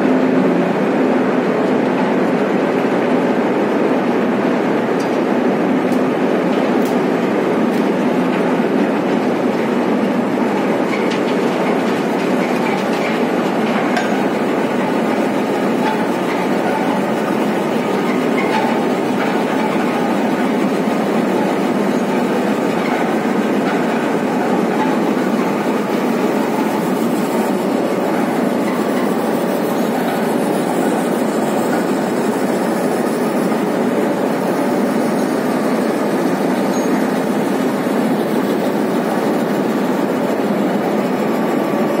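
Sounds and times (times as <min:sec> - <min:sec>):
heavy industrial machinery running: 0:00.0 - 0:42.0.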